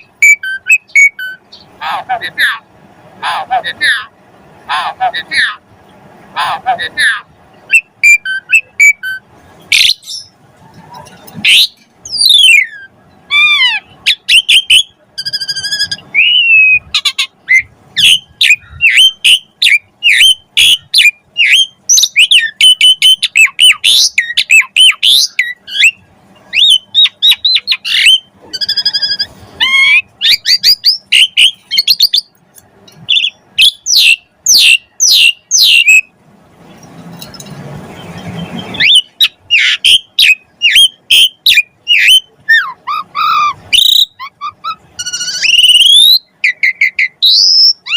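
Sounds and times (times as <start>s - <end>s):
bird singing whistles and chatter: 0.0s - 1.7s, 7.7s - 32.4s, 33.1s - 36.1s, 38.1s - 47.9s.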